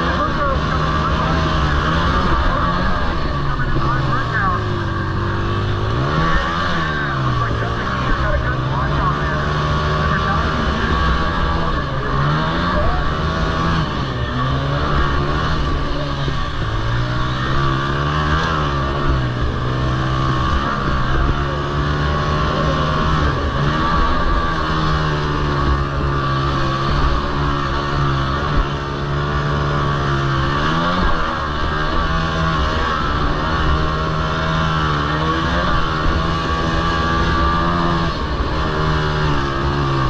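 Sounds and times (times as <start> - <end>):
quad engines revving: 0.0 - 40.0.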